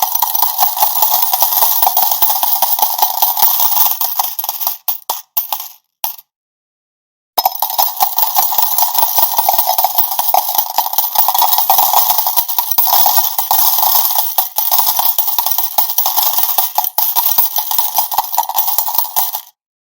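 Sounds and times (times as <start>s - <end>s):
coins pouring out: 0.0s - 6.2s, 7.4s - 19.5s.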